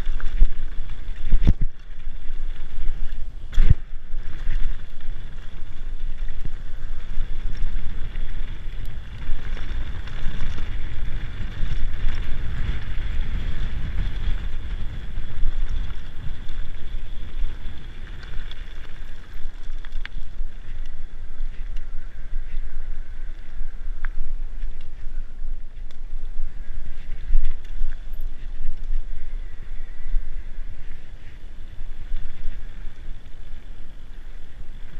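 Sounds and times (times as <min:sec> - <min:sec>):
bike tyres rattling on gravel: 0:00.0 - 0:34.9
wind buffeting microphone: 0:00.0 - 0:34.9.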